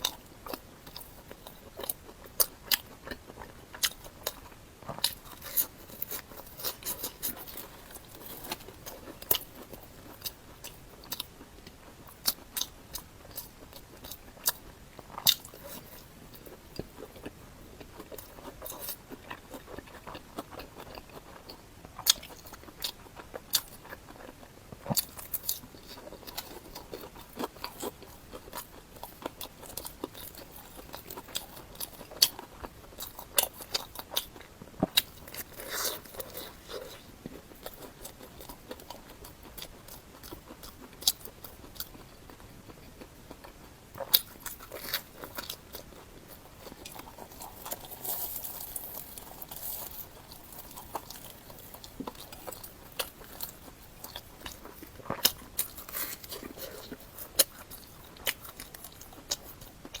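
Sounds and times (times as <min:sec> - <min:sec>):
crunching and chewing: 0:00.0 - 1:00.0.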